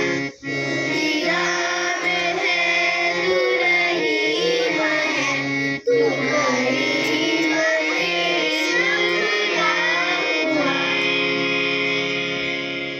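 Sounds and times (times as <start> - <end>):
children singing: 0.0 - 12.7
instrumental accompaniment: 0.0 - 12.9.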